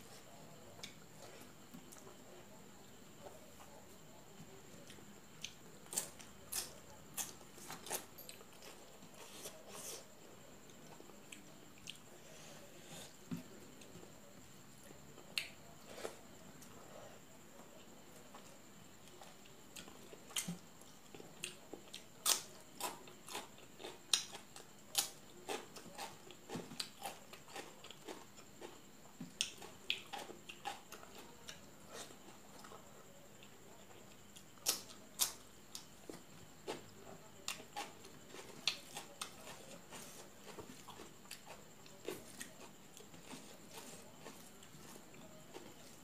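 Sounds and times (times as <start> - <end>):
faint high-pitched whine: 0.0 - 46.0.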